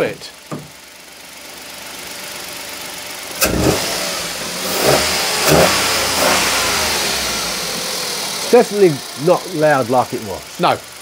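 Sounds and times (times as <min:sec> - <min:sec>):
faint engine whine: 0:00.0 - 0:11.0
car engine revving: 0:00.8 - 0:11.0.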